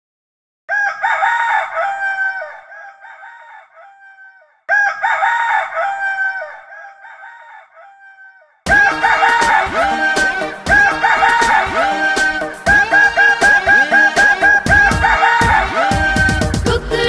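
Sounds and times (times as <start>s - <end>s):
rooster crowing: 0.7s - 16.7s.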